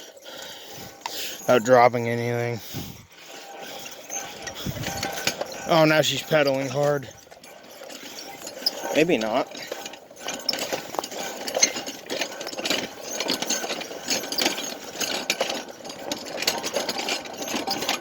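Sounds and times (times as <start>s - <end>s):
pedal car chain and wheels clattering: 0.0s - 18.0s.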